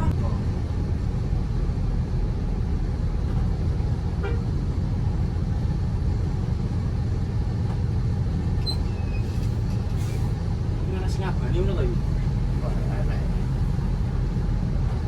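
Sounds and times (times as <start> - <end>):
bus engine rumbling: 0.0 - 15.0
road noise: 0.0 - 15.0.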